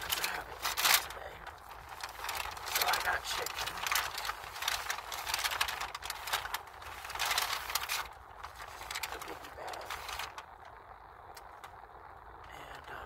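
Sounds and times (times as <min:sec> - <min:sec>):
paper bag crinkling: 0:00.0 - 0:11.9.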